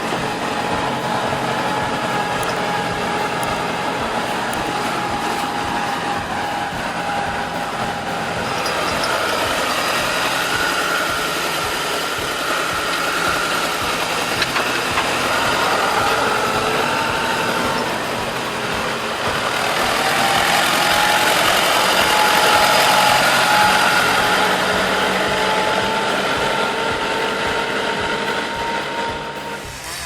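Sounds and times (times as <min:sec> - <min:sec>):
heavy vehicle engine running: 0:00.0 - 0:30.0.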